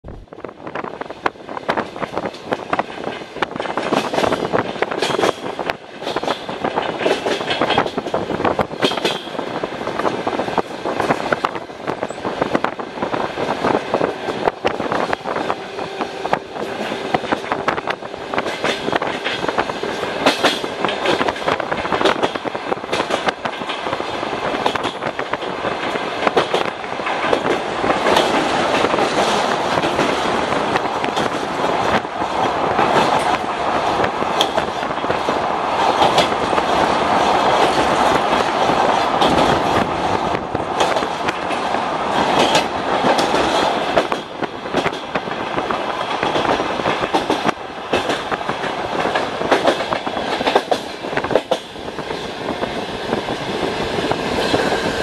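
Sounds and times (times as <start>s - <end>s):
clickety-clack over rail joints: 0.0s - 55.0s
train wheel and rail rumble: 0.0s - 55.0s.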